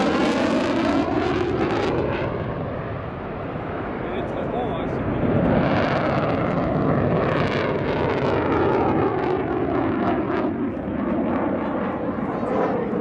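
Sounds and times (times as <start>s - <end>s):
jet engine rushing with crackles: 0.0s - 13.0s.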